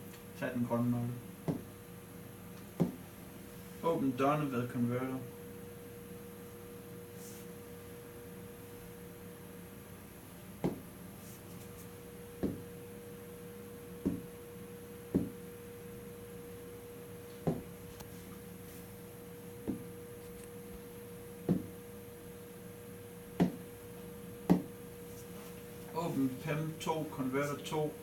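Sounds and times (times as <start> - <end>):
electrical hum with pitched tone: 0.0 - 28.0.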